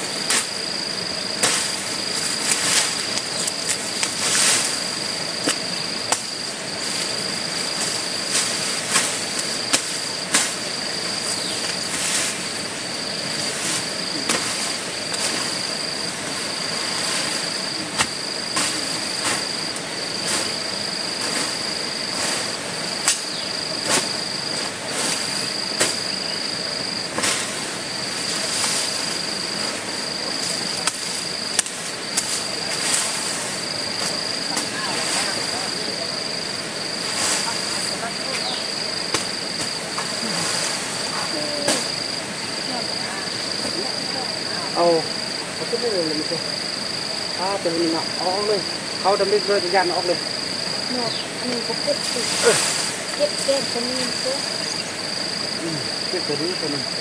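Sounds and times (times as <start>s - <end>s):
insect trilling: 0.0s - 57.0s.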